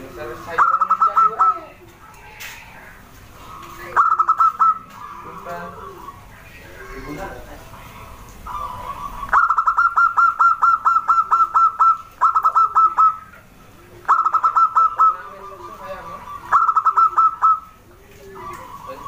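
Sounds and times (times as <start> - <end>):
dove calling staccato notes: 0.0 - 19.0.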